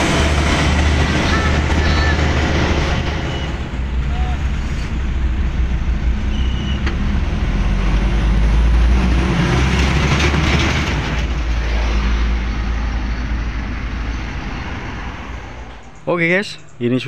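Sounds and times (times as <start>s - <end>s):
pickup engine rumbling: 0.0s - 17.0s
road and traffic noise: 0.0s - 17.0s.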